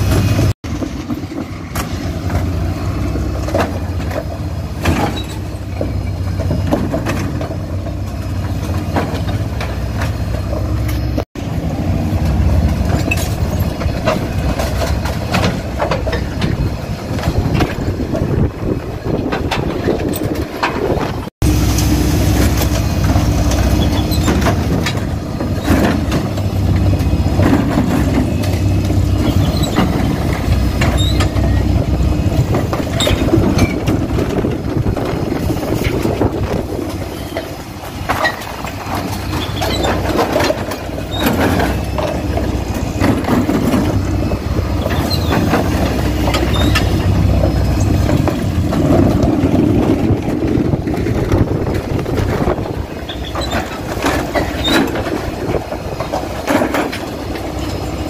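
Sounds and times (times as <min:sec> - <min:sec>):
wheelie bins knocking and clattering: 0:00.0 - 0:21.6, 0:22.2 - 0:58.0
refuse lorry engine drone: 0:00.0 - 0:58.0.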